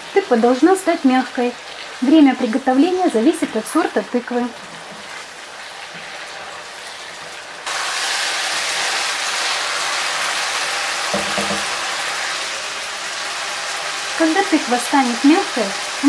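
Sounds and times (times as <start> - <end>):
food sizzling in a frying pan: 0.0 - 16.0
spatula stirring in a pan: 1.6 - 16.0.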